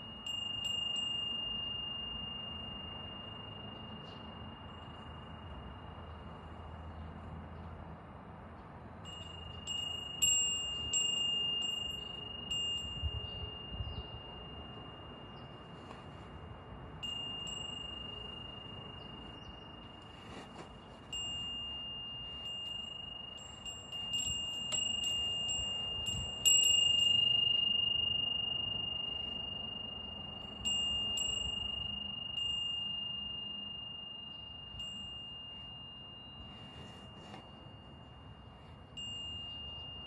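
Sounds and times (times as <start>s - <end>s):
wind chime ringing: 0.0s - 7.6s, 8.8s - 40.0s.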